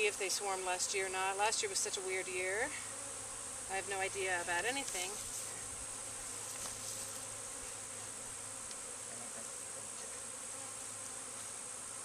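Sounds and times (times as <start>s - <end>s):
bee swarm buzzing: 0.0s - 12.0s.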